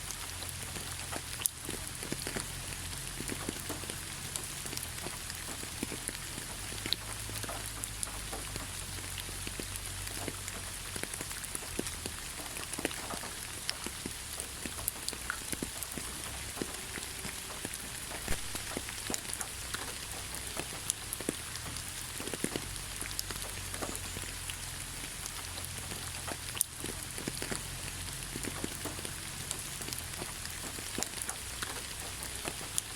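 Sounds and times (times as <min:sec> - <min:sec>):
rain falling on leaves: 0:00.0 - 0:32.9.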